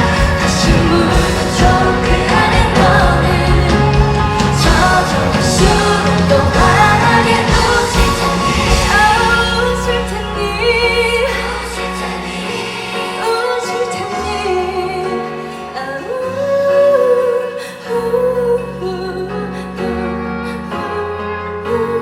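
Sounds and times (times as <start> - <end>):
band and keyboard accompaniment: 0.0 - 22.0
woman singing: 0.0 - 22.0.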